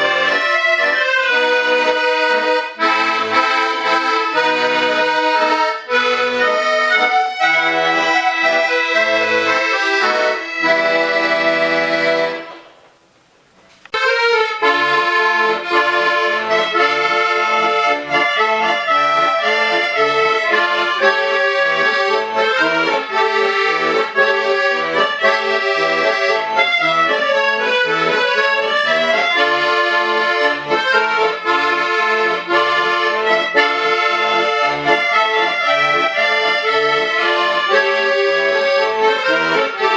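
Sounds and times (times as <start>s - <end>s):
accordion ensemble playing: 0.0s - 12.8s, 13.9s - 39.9s.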